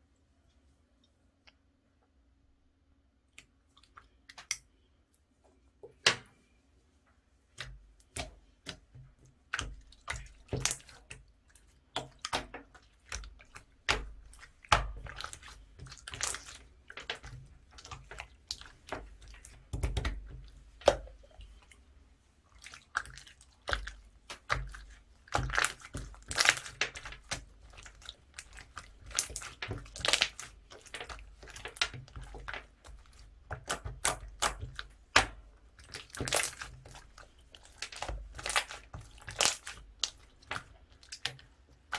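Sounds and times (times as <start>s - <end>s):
hands squishing slime: 7.5s - 41.9s.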